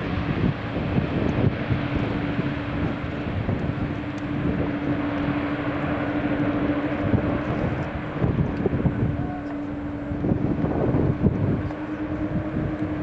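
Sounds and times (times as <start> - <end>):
low engine rumble: 0.0 - 13.0
propeller hum: 0.0 - 13.0.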